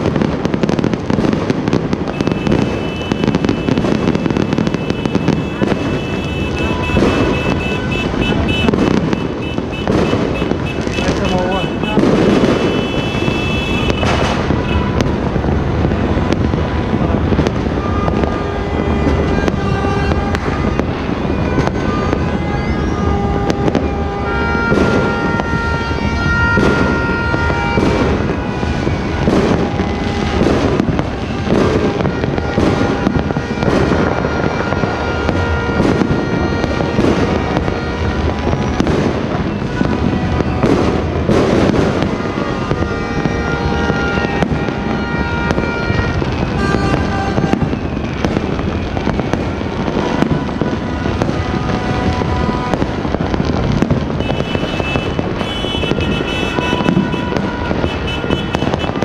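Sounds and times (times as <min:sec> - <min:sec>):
fireworks and firecrackers banging: 0:00.0 - 0:59.0.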